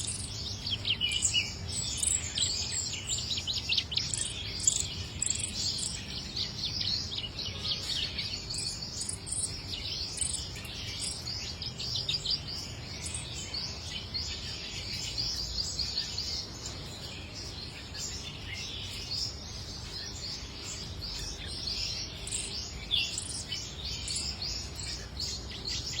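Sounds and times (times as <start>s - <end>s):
warbler singing high chirps: 0.0s - 26.0s.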